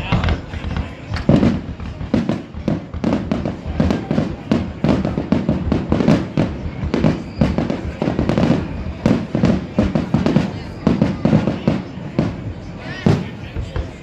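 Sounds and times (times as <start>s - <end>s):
fireworks booming and cracking: 0.0s - 14.0s.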